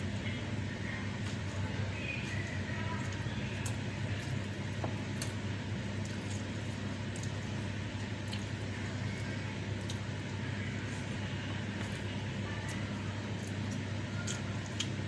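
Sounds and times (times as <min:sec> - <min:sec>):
steady low hum: 0:00.0 - 0:15.0
chewing: 0:02.2 - 0:15.0.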